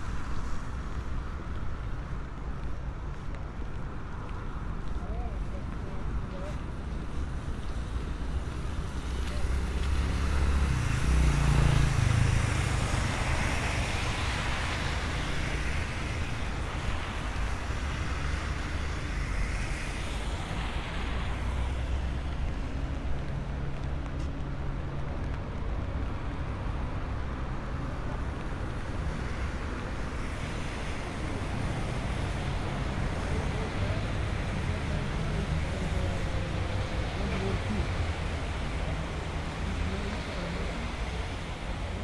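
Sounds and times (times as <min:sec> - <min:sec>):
traffic rumble and tyre hiss: 0:00.0 - 0:42.0.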